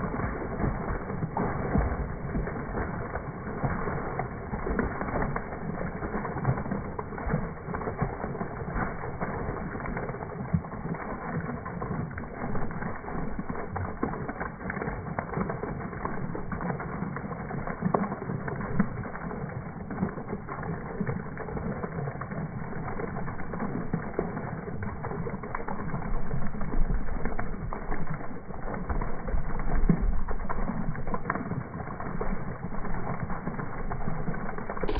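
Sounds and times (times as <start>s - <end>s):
water pouring into tub: 0.0s - 34.9s.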